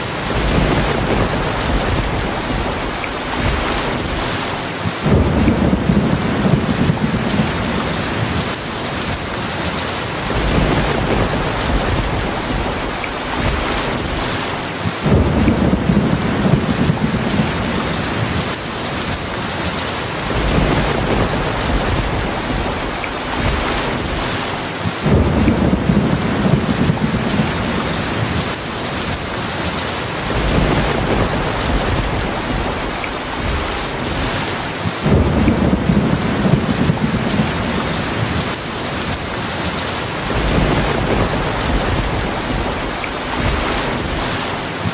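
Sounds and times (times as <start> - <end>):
heavy rain hissing: 0.0 - 44.9
thunder rumbles: 0.0 - 44.9.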